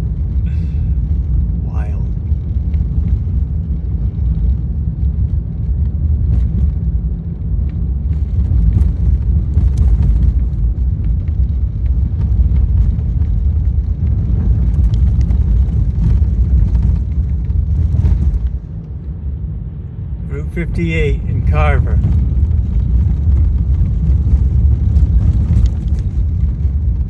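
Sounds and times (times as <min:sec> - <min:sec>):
road and tyre rumble: 0:00.0 - 0:27.0.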